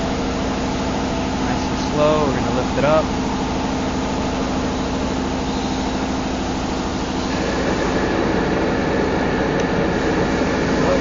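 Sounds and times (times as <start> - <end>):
electric hoist humming: 0.0 - 11.0
higher mechanical whine: 0.0 - 11.0.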